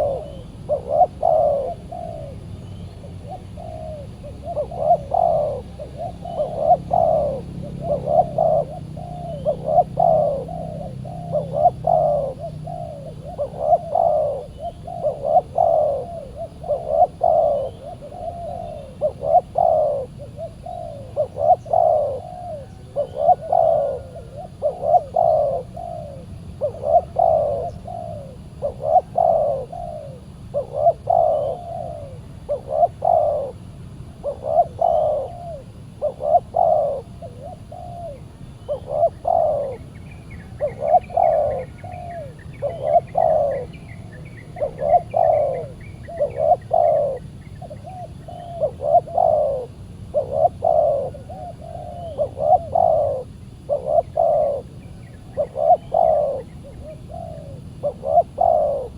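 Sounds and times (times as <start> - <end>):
doves cooing: 0.0 - 58.9.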